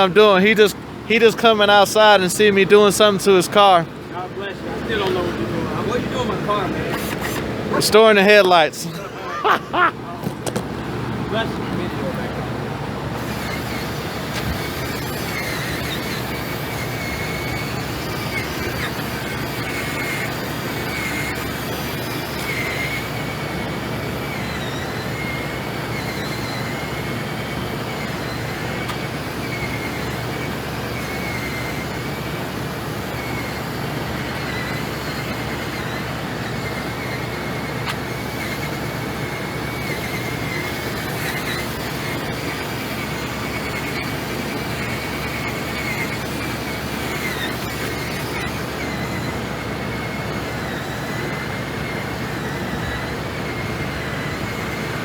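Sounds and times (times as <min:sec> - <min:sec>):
cordless drill motor whine: 0:00.0 - 0:55.0
hvac unit hum: 0:00.0 - 0:55.0.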